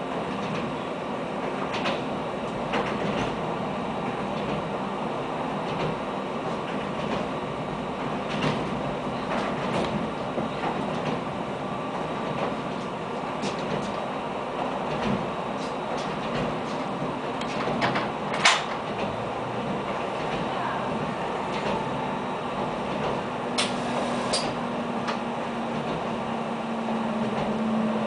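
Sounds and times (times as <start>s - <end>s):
railbus running noise: 0.0s - 28.0s.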